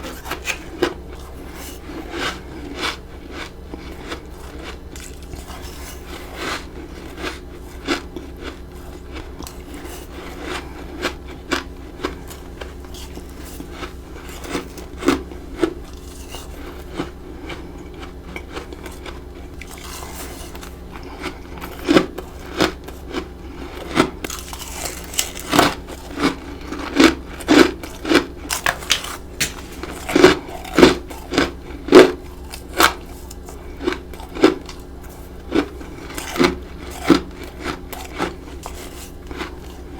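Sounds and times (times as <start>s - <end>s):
frost crunching between teeth: 0.0s - 39.9s.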